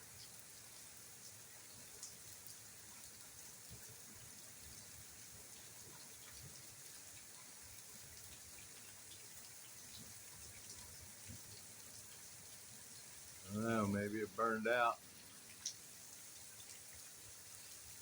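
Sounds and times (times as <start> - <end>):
faint rain falling: 0.0 - 18.0
water drips ticking: 0.1 - 18.0.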